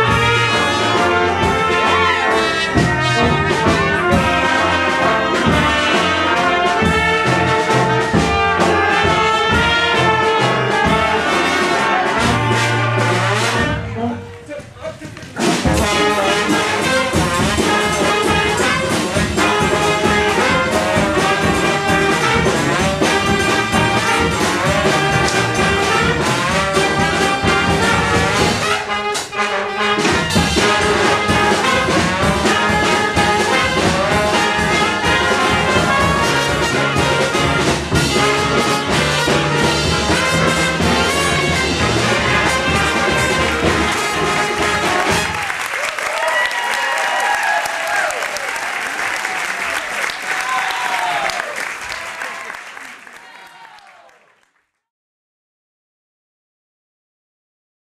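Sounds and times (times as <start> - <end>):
brass band playing: 0.0 - 52.5.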